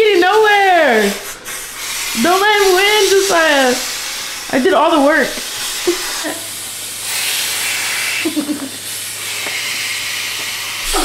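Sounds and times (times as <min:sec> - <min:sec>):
person blowing into inflatable valve: 0:00.9 - 0:04.5, 0:05.4 - 0:11.0.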